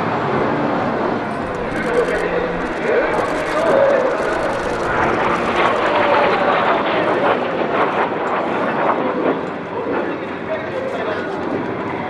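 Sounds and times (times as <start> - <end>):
jet flying past with whine: 0.0 - 11.6.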